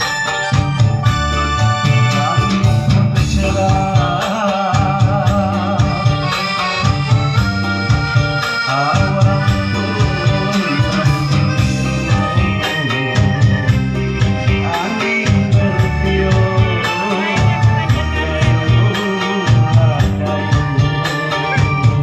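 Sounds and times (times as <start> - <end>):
keyboard chords: 0.0 - 22.0
melody with wide vibrato: 0.0 - 22.0
pulsing bass beat: 0.0 - 22.0.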